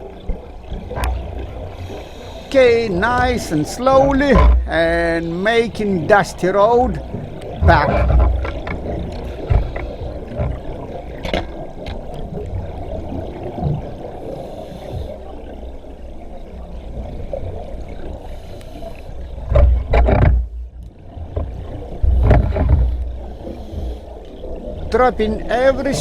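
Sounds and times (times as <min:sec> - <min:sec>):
underwater rumble and hiss: 0:00.0 - 0:26.0.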